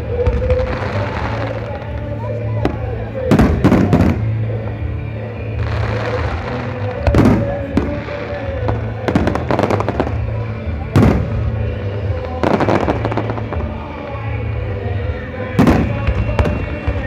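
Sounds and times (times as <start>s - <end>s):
background music: 0.0s - 17.0s
fireworks bangs: 0.0s - 17.0s.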